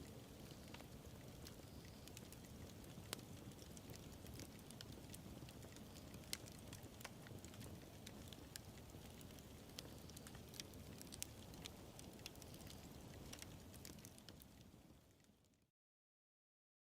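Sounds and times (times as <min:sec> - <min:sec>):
wood fire crackling: 0:00.0 - 0:15.6.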